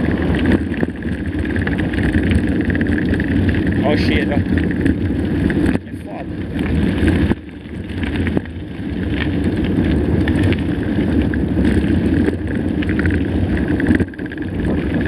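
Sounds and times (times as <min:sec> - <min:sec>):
bike rattling and clicking: 0:00.0 - 0:15.0
wind buffeting microphone: 0:00.0 - 0:15.0.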